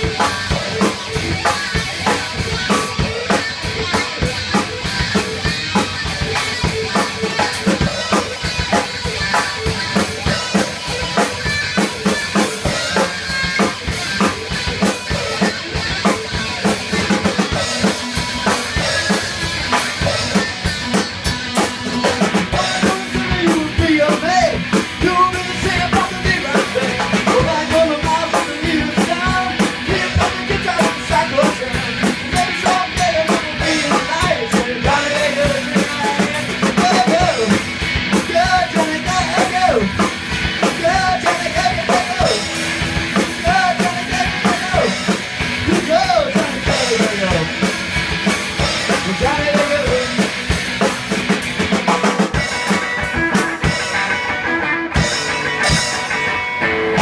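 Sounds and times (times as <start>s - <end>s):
drum kit beat: 0.0s - 57.0s
electric guitar: 0.0s - 57.0s.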